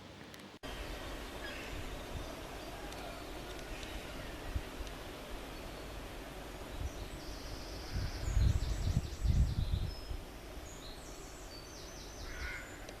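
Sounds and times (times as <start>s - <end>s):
low rumbling buffets: 0.0s - 12.3s
outdoor background hiss: 0.0s - 13.0s
small birds chirping: 0.3s - 13.0s.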